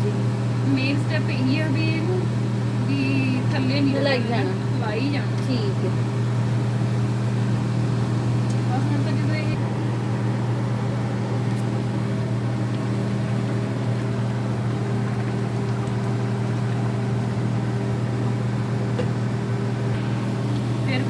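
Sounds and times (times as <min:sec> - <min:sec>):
kitchen appliance motor hum: 0:00.0 - 0:21.0.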